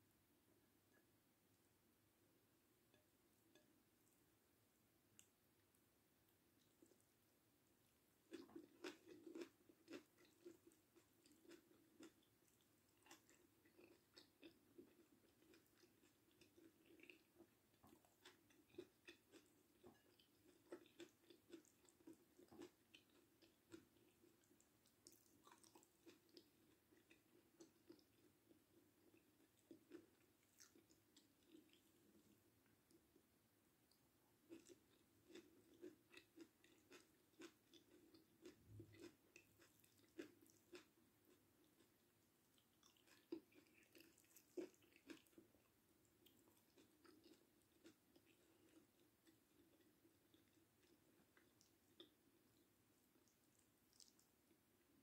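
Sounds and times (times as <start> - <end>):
person chewing food: 6.6 - 7.1, 8.2 - 33.3, 33.9 - 55.0.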